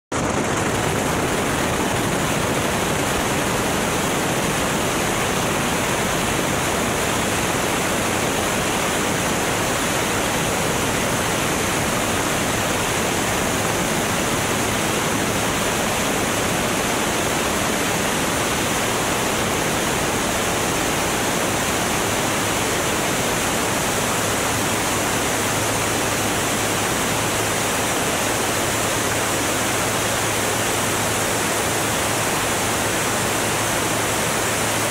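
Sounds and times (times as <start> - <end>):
aircraft engine and rushing air: 0.1 - 34.9.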